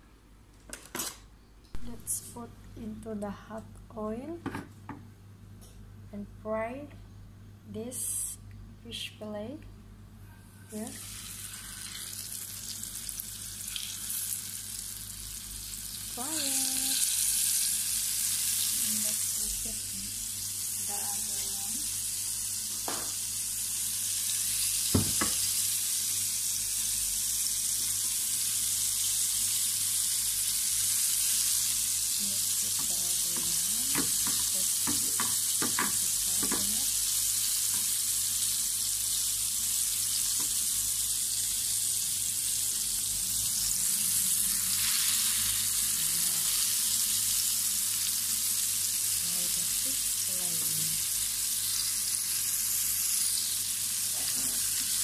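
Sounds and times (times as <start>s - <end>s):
fish sizzling in hot oil: 10.8s - 55.0s.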